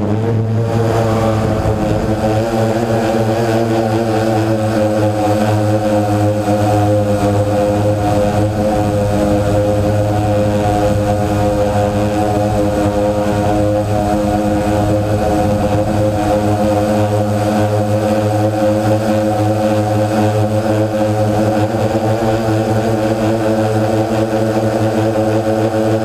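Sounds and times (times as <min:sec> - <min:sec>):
drone propellers buzzing: 0:00.0 - 0:26.0.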